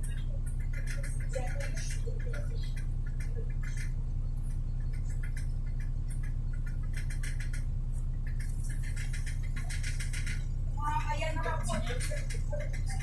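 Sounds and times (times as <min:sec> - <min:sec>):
bus engine and road drone: 0:00.0 - 0:13.0
fast high ticking and rattling: 0:00.0 - 0:13.0.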